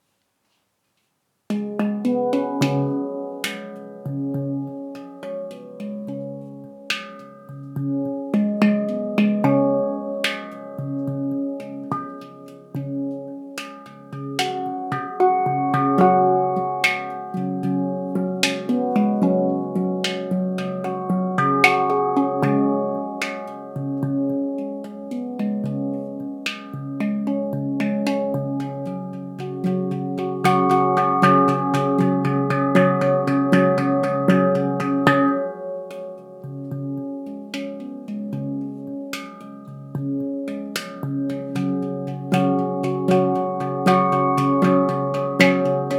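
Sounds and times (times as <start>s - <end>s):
handpan melody: 1.5s - 45.9s.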